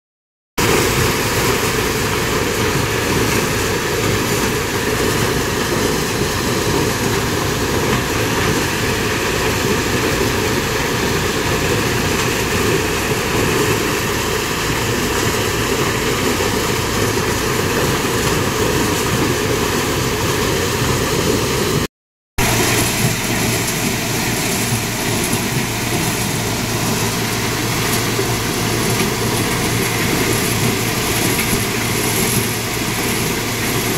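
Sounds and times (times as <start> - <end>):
corn sheller machine running: 0.6 - 33.9.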